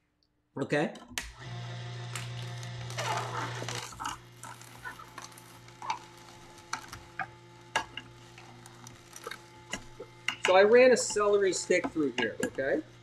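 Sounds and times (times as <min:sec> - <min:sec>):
juicer motor hum: 0:01.2 - 0:13.0
celery crunching: 0:02.0 - 0:12.7.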